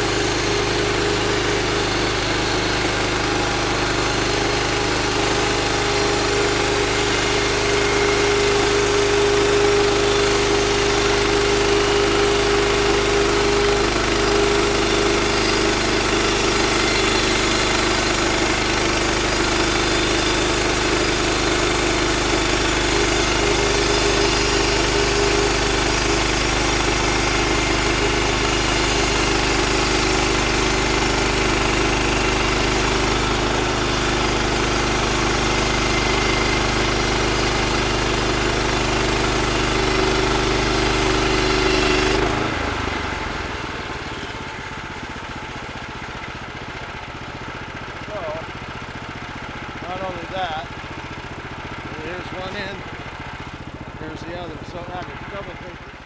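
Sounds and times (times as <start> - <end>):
bandsaw mill cutting log: 0.0 - 56.0
engine idling: 0.0 - 56.0.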